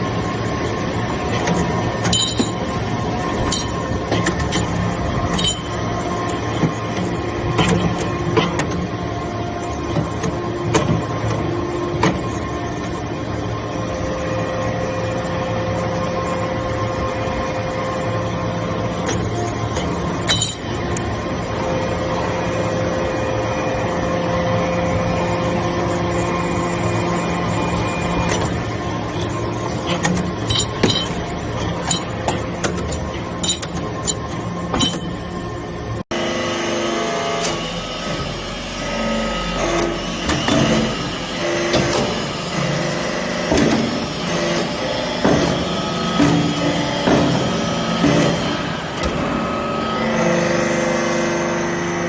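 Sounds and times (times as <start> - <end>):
hydraulic pump humming: 0.0 - 52.0.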